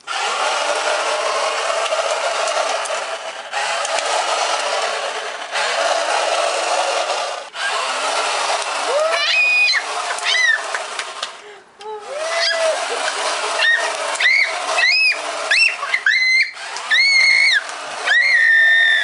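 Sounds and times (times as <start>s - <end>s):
toy scooter grinding noise: 0.0s - 19.0s.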